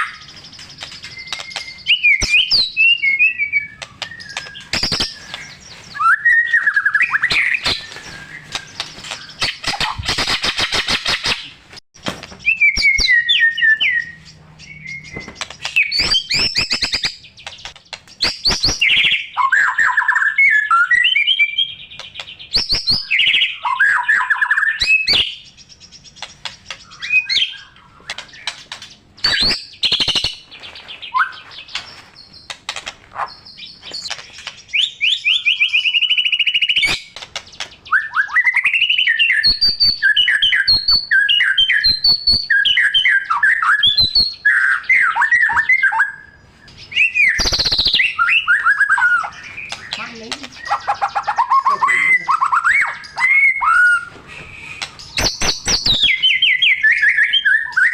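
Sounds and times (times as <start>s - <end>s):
bird singing whistled phrases and trills: 0.0s - 11.4s, 12.4s - 32.6s, 33.2s - 57.9s.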